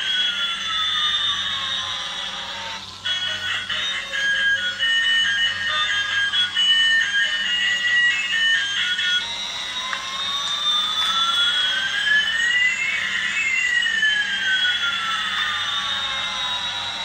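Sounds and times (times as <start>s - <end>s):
cartoon jet engine whines: 0.0s - 17.0s
music: 0.0s - 17.0s.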